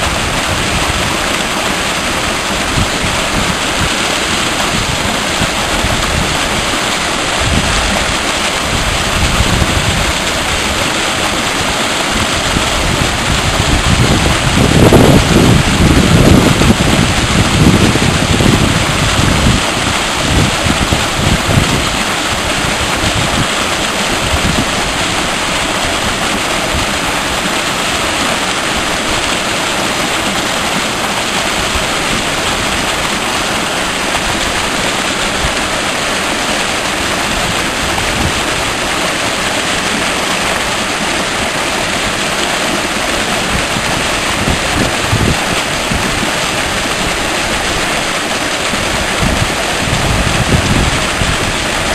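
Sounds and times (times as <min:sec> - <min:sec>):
wind buffeting microphone: 0:00.0 - 0:36.0, 0:36.8 - 0:40.0, 0:40.6 - 0:51.9
mountain stream rushing: 0:00.0 - 0:51.9.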